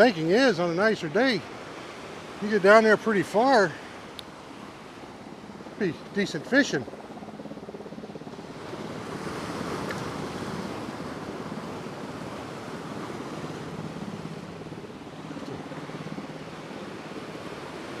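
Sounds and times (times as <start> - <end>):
ocean surf breaking on rocks: 0.0 - 7.0, 8.3 - 18.0.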